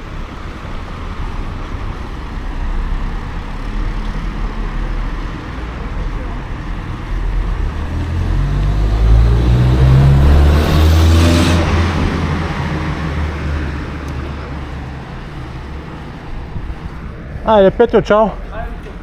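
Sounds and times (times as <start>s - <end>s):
motor vehicle passing by: 0.0s - 19.0s.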